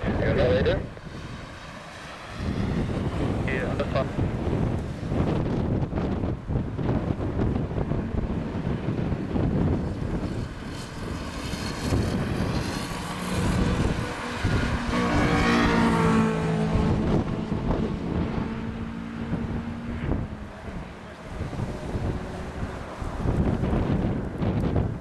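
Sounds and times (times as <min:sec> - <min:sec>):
jet airliner passing: 0:00.0 - 0:25.0
wind buffeting microphone: 0:00.0 - 0:25.0.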